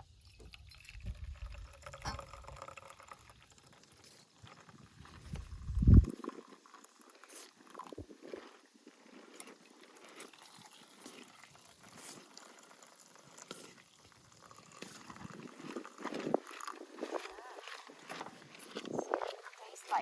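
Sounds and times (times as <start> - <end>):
liquid sounds of coffee making: 0.0 - 20.0.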